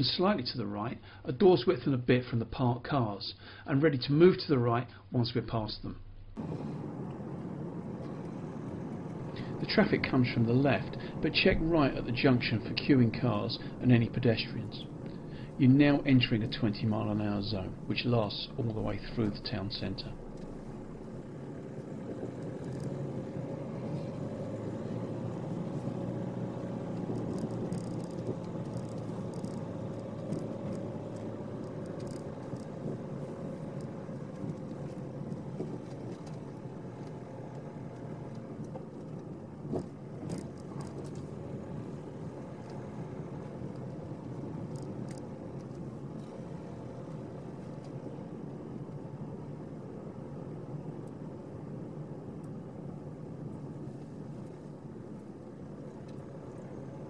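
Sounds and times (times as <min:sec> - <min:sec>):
car engine and tyre noise: 0:05.4 - 0:57.0.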